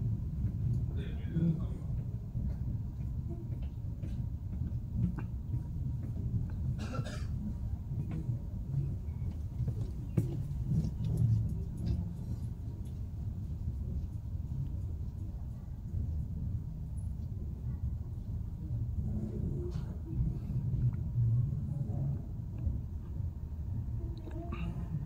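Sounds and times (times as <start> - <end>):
train rumble from inside coach: 0.0 - 25.0.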